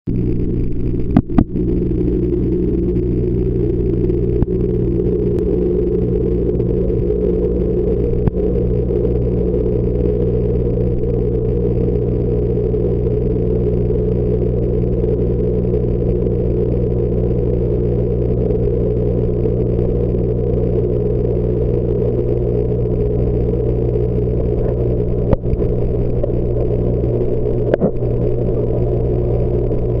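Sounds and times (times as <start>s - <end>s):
aquarium pumps humming: 0.1s - 30.0s.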